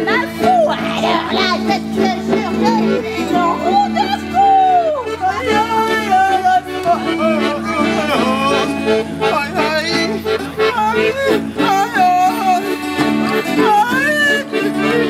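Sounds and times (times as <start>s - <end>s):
acoustic guitar: 0.0s - 15.0s
man singing: 0.0s - 15.0s
piano accordion chords: 0.0s - 15.0s.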